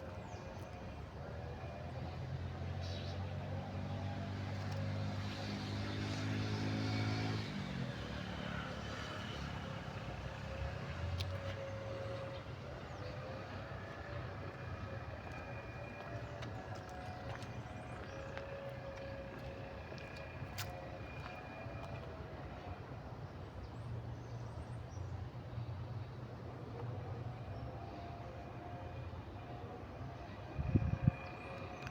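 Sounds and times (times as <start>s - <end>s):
low steady engine-like noise: 0.0s - 31.9s
vehicle engine running: 0.0s - 31.9s.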